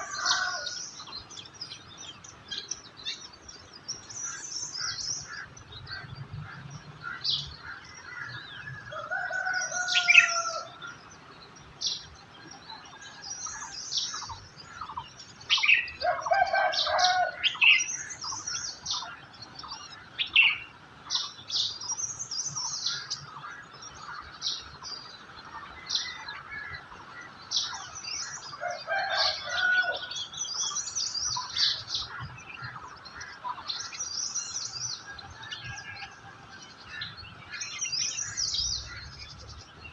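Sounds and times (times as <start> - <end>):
lower longer bird calls: 0.0 - 39.9
songbirds chirping and trilling: 0.0 - 39.9.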